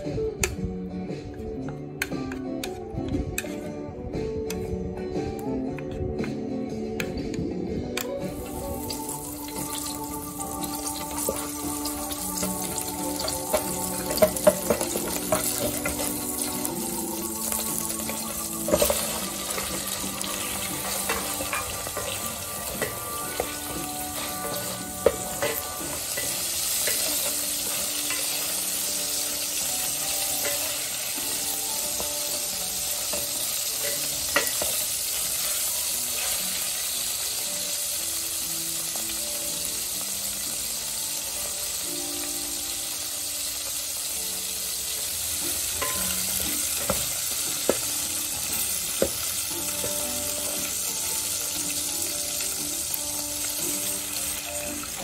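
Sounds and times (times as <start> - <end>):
fish frying in hot oil: 8.4 - 55.0.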